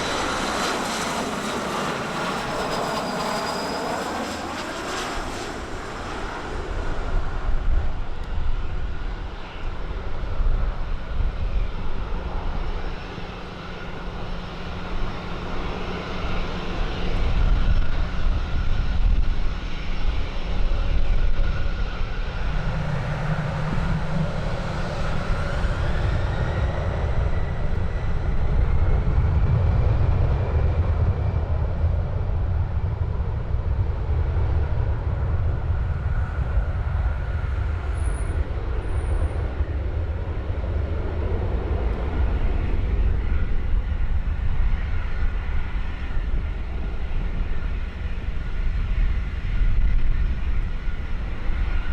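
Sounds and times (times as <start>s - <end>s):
aircraft turbine whine: 0.0s - 51.9s
rising turbine whine: 0.0s - 51.9s.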